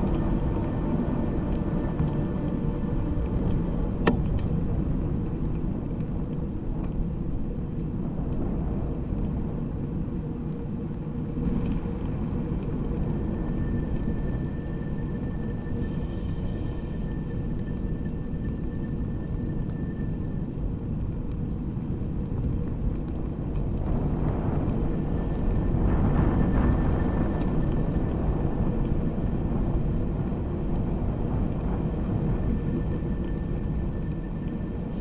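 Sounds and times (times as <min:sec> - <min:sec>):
faint high whine: 0:00.0 - 0:35.0
wind buffeting microphone: 0:00.0 - 0:35.0.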